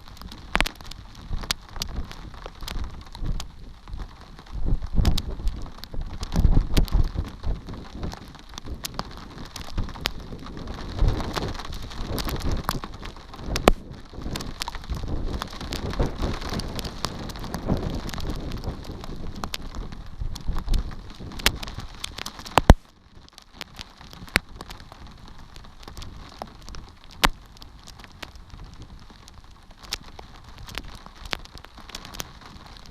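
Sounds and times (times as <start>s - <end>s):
rain falling: 0.0s - 32.9s
raindrops striking close: 0.0s - 32.9s.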